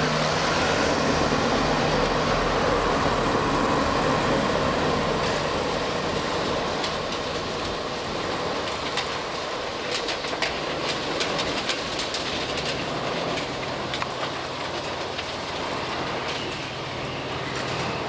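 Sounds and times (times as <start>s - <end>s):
railcar engine rumble: 0.0s - 18.0s
track maintenance machine: 0.0s - 18.0s.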